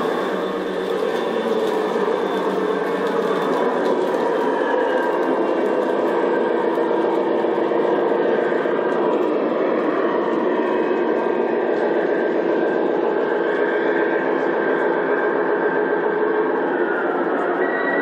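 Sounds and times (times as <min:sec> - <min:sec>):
model train rolling on rails: 0:00.0 - 0:14.9.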